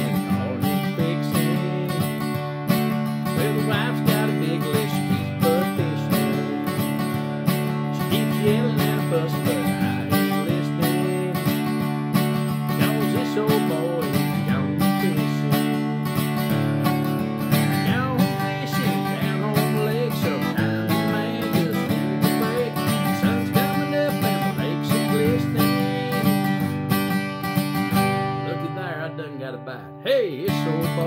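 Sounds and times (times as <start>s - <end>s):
man singing: 0.0s - 27.1s, 28.2s - 31.0s
acoustic guitar strumming: 0.0s - 31.0s.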